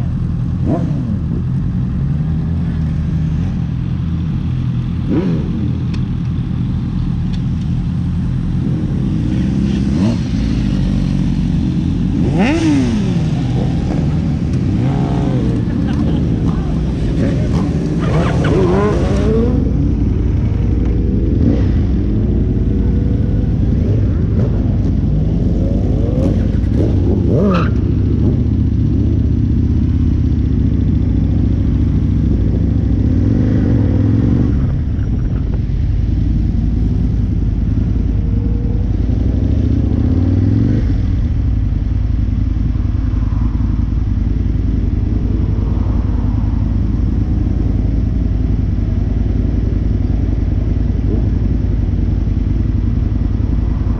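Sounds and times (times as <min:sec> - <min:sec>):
motorcycle engine accelerating: 0:00.0 - 0:53.9
wind and road noise: 0:00.0 - 0:53.9.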